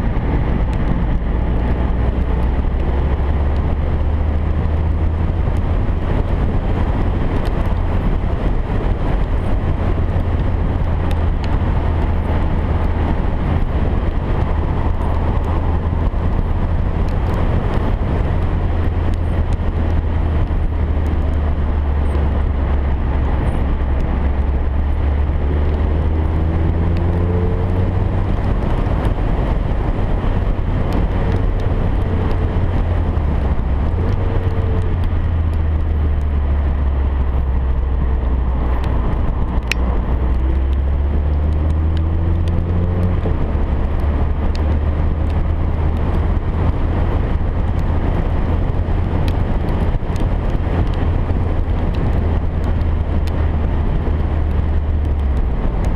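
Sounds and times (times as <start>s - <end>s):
heavy low rumble: 0.0s - 55.9s.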